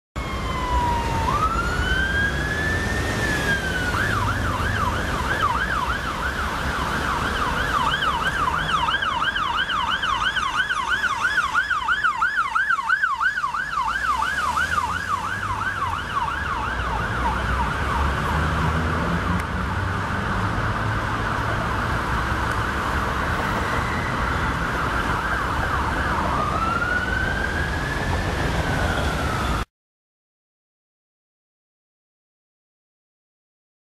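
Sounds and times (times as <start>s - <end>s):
ambulance siren wailing and yelping: 0.2s - 18.6s, 20.7s - 29.7s
traffic rumble: 0.2s - 29.7s.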